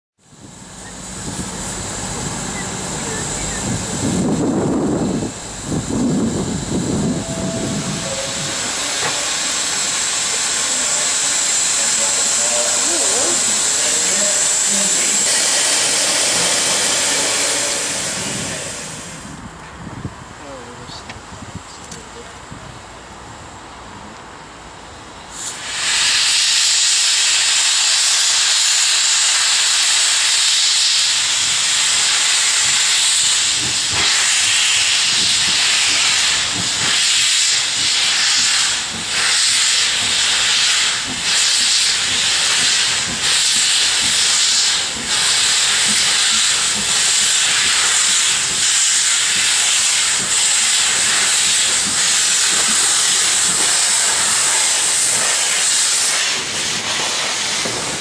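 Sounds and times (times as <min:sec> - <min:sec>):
steam locomotive exhaust beats: 0:00.2 - 0:20.2, 0:22.4 - 0:58.0
steam hissing: 0:00.3 - 0:19.5, 0:25.2 - 0:58.0.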